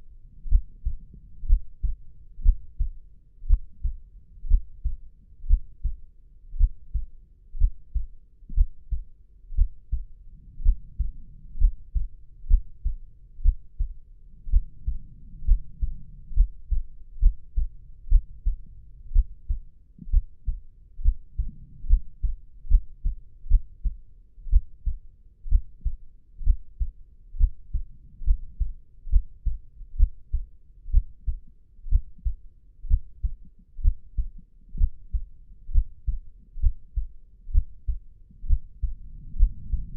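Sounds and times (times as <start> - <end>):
heartbeat thumps: 0.5 - 39.9.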